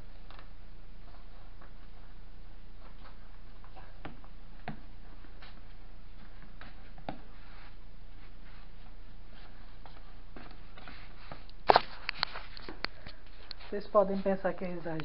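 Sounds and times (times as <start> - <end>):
low room hum: 0.0 - 15.0
dog feet tapping on tiles: 2.8 - 15.0.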